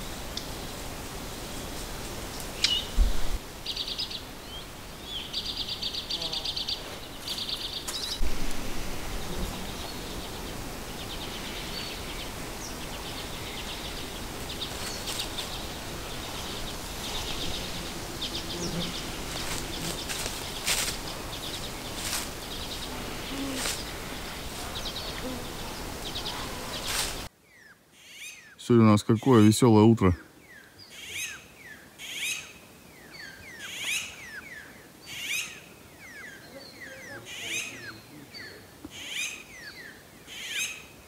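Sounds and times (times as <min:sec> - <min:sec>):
steady outdoor hiss: 0:00.0 - 0:41.0
birds trilling: 0:03.6 - 0:27.3, 0:30.5 - 0:40.9.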